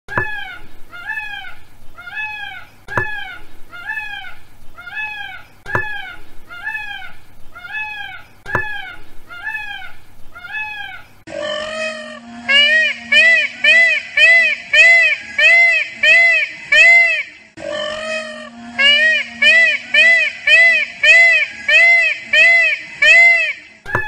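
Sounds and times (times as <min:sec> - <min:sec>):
peafowl honking calls: 0:00.1 - 0:24.0.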